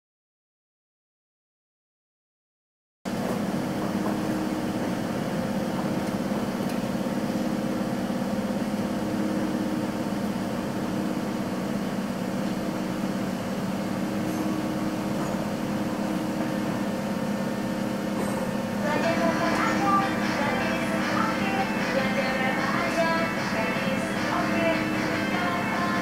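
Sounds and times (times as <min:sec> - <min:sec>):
air conditioning hum: 0:03.1 - 0:26.0
train carriage running hum: 0:03.1 - 0:26.0.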